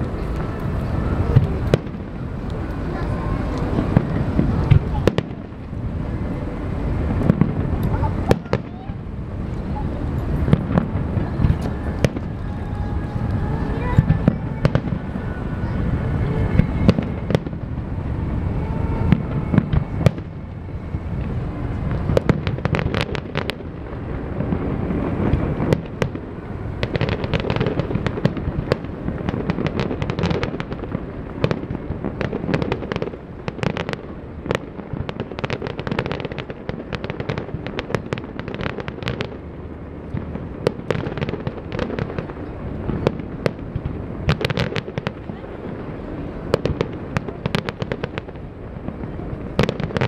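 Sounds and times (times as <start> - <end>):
fireworks crackling: 0.0 - 50.0
low rumble: 0.0 - 50.0.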